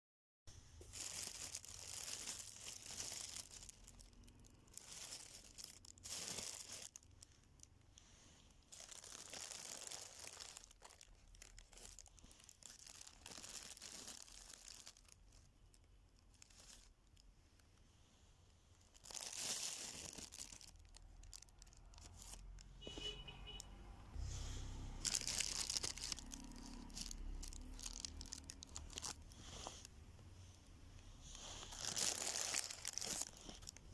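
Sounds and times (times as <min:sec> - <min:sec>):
crinkling and rustling packaging: 0:00.5 - 0:18.0, 0:18.6 - 0:23.6, 0:24.2 - 0:33.9.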